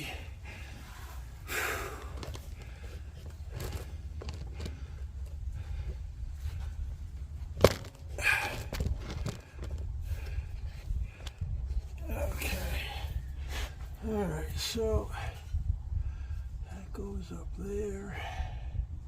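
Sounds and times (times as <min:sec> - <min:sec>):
man breathing hard: 0:00.0 - 0:07.2, 0:08.1 - 0:14.0, 0:15.1 - 0:16.7, 0:18.0 - 0:19.0
steady low rumble: 0:00.0 - 0:19.0.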